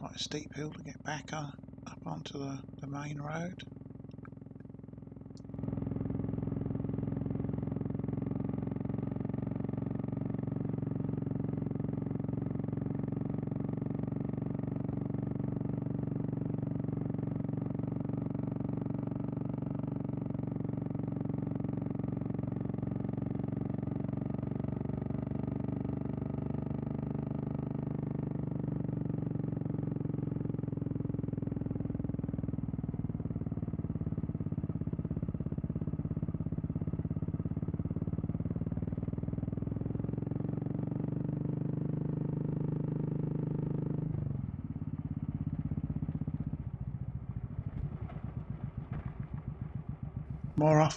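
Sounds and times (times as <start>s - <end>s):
motorcycle engine climbing a hill: 3.6s - 50.9s.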